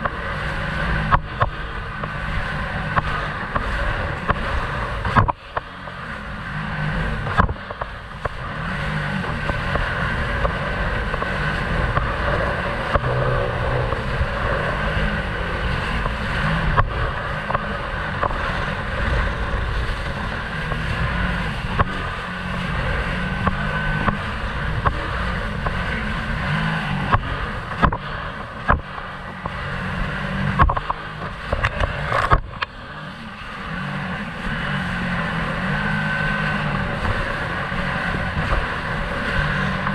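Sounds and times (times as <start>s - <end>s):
jet ski engine running: 0.0s - 39.9s
water rushing and spraying: 0.0s - 39.9s.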